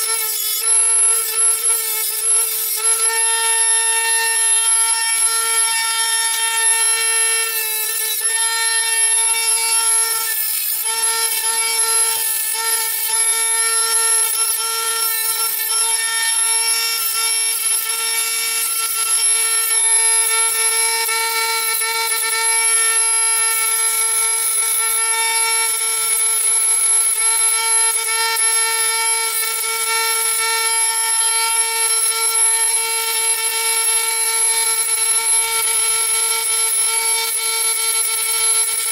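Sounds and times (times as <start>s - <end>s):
rotary tool grinding metal: 0.0s - 38.9s
rotary tool whining: 0.0s - 38.9s.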